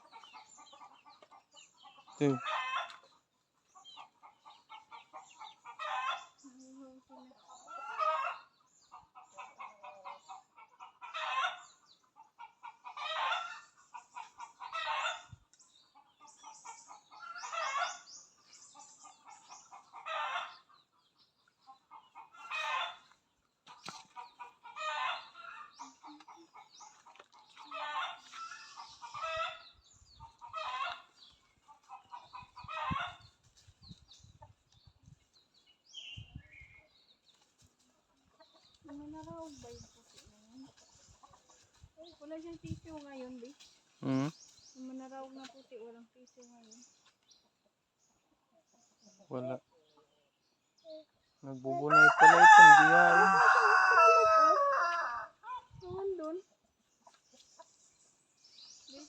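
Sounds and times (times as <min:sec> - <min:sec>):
chickens clucking: 0:00.0 - 0:35.6, 0:36.2 - 0:59.0
chickens calling loudly: 0:00.0 - 0:42.8, 0:51.1 - 0:58.2.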